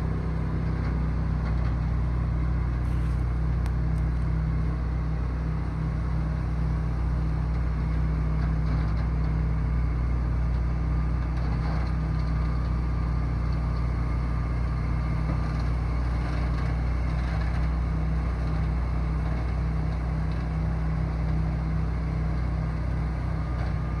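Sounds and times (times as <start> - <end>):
truck engine droning: 0.0 - 24.0.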